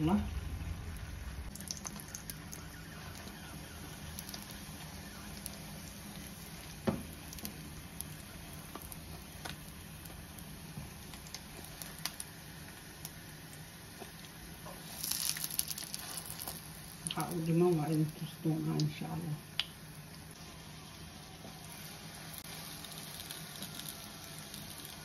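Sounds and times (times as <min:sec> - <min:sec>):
tortillas sizzling in oil: 0:00.0 - 0:25.0.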